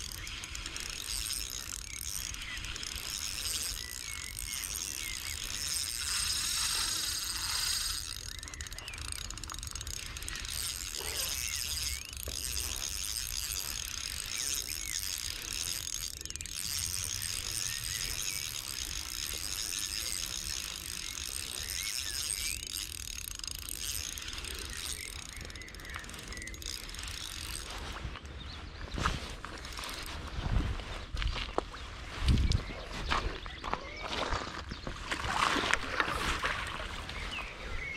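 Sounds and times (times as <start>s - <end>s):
fishing reel gears whirring: 0.0s - 30.5s.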